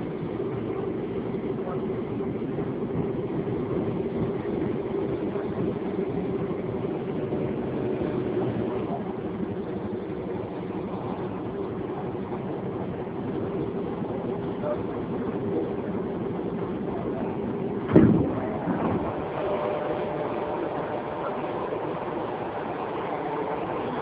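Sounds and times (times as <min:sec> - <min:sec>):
subway train rumble and hum: 0:00.0 - 0:24.0.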